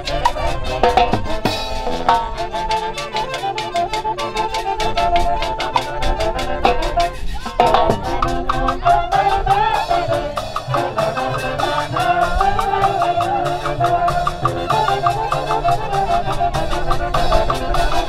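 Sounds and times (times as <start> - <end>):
quick steady drum beat: 0.0 - 18.0
wind instruments playing dance tune: 0.0 - 18.0.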